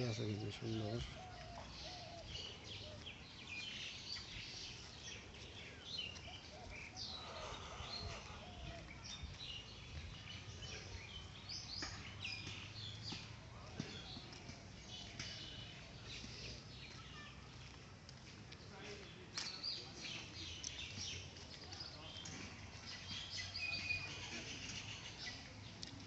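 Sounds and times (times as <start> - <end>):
birds chirping: 0.0 - 17.9, 18.5 - 26.0
faint outdoor background: 0.0 - 26.0.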